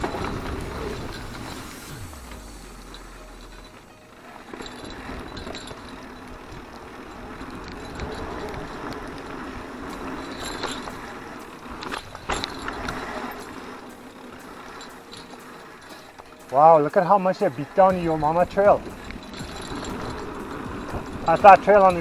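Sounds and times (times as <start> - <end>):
bike chain rattling: 0.0 - 22.0
bike tyres on dirt trail: 0.0 - 22.0.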